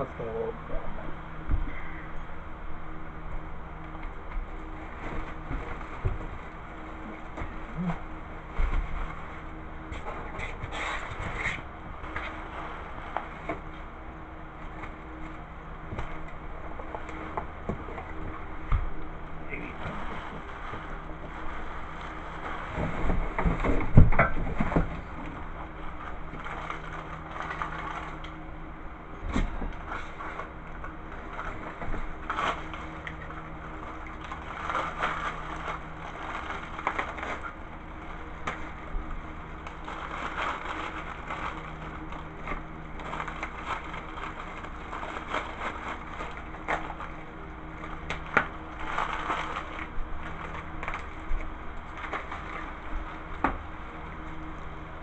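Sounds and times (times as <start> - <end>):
plastic wrap rustling: 0.2 - 55.0
cardboard scraping: 1.7 - 55.0.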